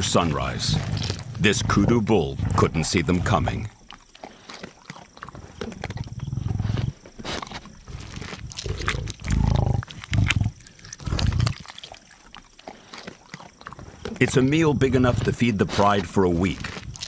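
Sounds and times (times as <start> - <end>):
lions growling: 0.0 - 17.0.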